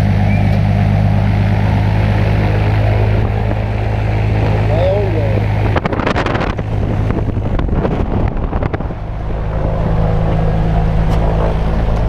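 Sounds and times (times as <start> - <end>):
propeller aircraft engine: 0.0 - 12.0
wind buffeting microphone: 0.9 - 12.0.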